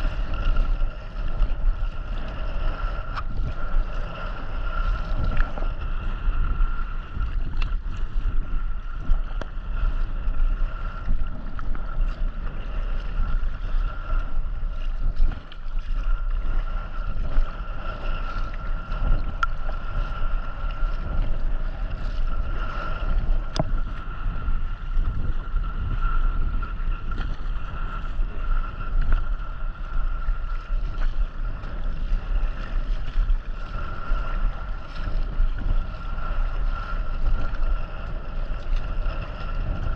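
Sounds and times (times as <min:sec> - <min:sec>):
water wash: 0:00.0 - 0:39.9
wind buffeting microphone: 0:00.0 - 0:39.9.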